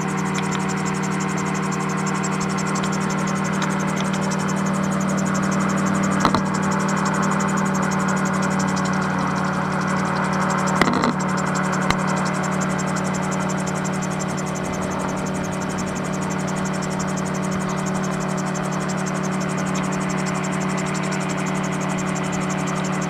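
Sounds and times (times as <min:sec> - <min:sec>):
aircraft engine drone: 0:00.0 - 0:23.0.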